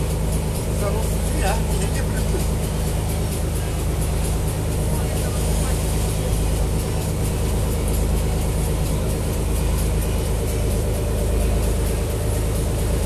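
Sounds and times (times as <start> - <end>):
boat engine drone: 0.0 - 13.0
water splashing along hull: 0.0 - 13.0.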